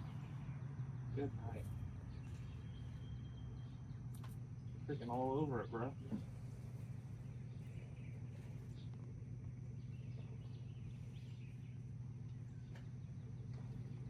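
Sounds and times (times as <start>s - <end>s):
bird chirps: 0.0s - 14.0s
low background hum: 0.0s - 14.0s.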